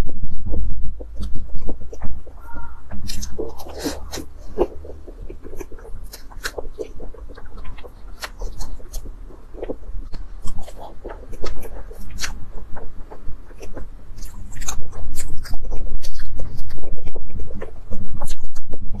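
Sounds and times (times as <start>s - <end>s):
chewing with mouth clicks: 0.1s - 19.0s.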